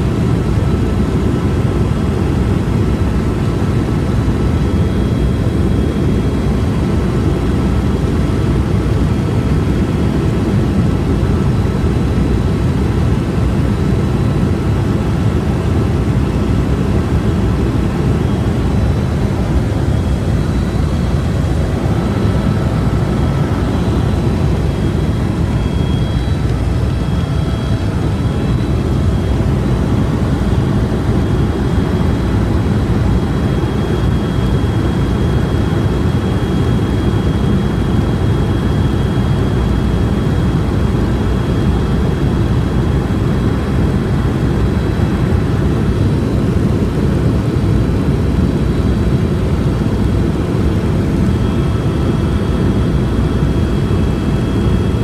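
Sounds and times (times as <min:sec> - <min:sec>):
helicopter engine and rotor rumble: 0:00.0 - 0:55.0
faint high whine: 0:00.4 - 0:55.0.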